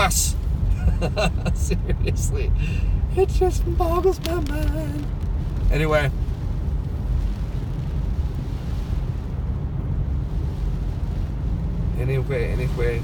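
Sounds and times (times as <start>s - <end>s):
road and tyre rumble inside car: 0.0s - 13.0s.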